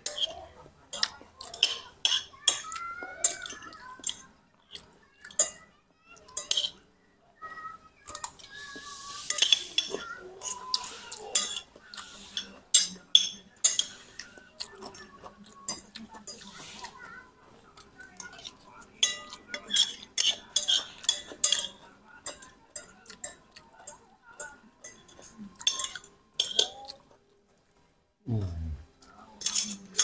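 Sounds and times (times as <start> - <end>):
cutlery clinking on a plate: 0.0 - 6.9, 9.2 - 17.1, 18.1 - 27.2, 29.4 - 30.0.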